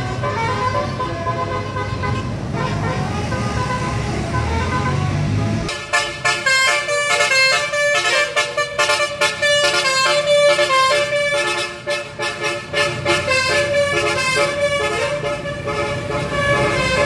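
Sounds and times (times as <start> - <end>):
bus engine and road rumble: 0.0 - 17.0
multi-tone air horn melody: 0.0 - 17.0.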